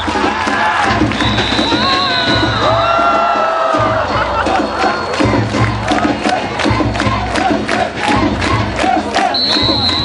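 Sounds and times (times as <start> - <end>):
festival crowd shouting and cheering: 0.0 - 10.0
music: 0.0 - 10.0.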